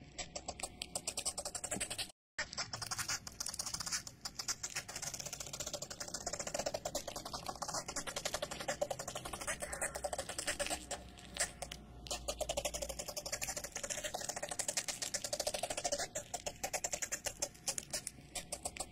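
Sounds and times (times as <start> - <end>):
rapid clicking and crackling: 0.2 - 18.9.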